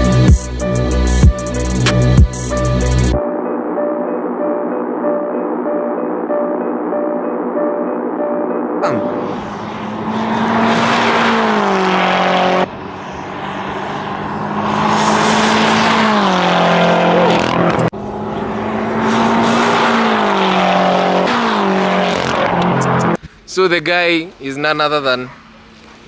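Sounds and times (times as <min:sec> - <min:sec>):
car engine at speed: 0:00.0 - 0:23.3.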